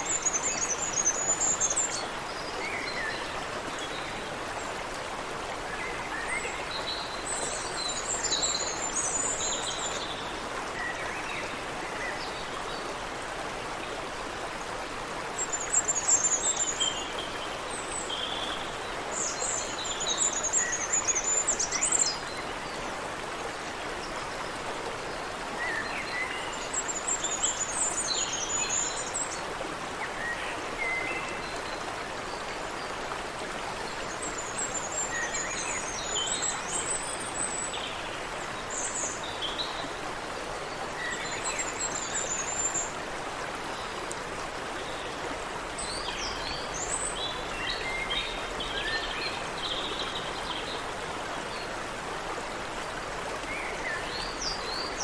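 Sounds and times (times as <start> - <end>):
stream water running: 0.0 - 55.0.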